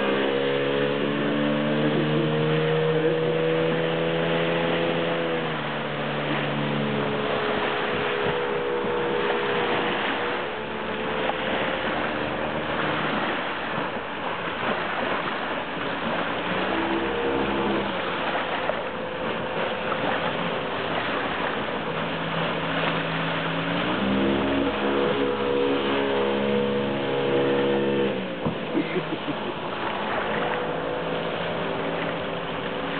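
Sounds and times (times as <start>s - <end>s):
outboard motor running: 0.0s - 32.9s
water and wind rushing: 0.0s - 32.9s.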